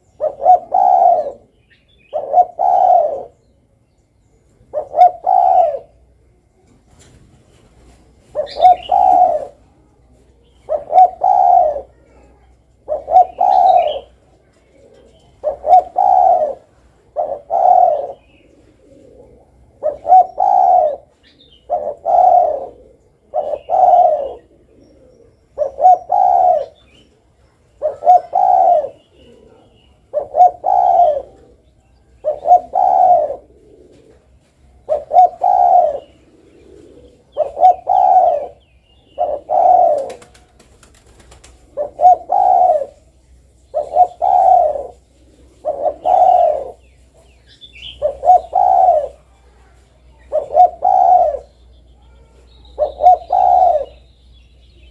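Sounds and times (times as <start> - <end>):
dove cooing: 0.0 - 3.4, 4.6 - 6.4, 7.9 - 9.8, 10.4 - 54.9.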